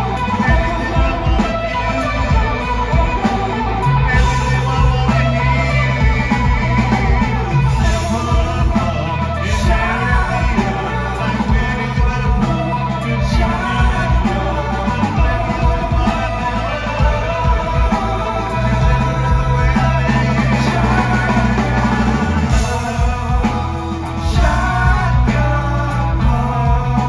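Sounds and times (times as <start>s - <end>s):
bass guitar: 0.0s - 27.0s
drums: 0.0s - 27.0s
electric guitars: 0.0s - 27.0s
man singing lead vocal: 0.0s - 27.0s.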